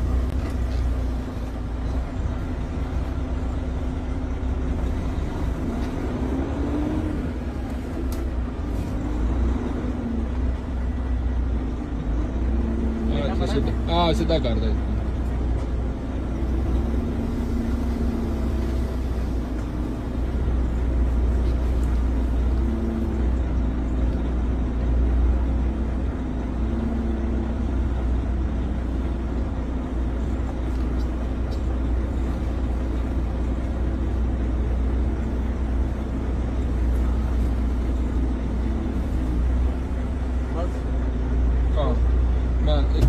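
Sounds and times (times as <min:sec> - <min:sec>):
truck engine rumbling: 0:00.0 - 0:43.0.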